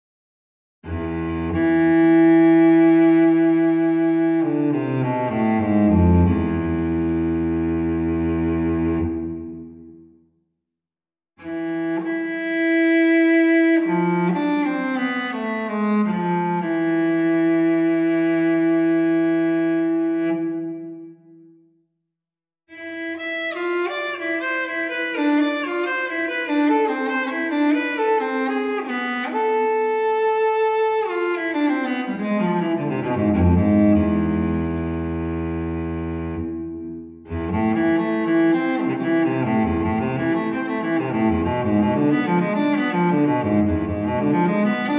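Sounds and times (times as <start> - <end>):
solo cello: 0.8 - 10.1, 11.4 - 21.3, 22.7 - 44.9.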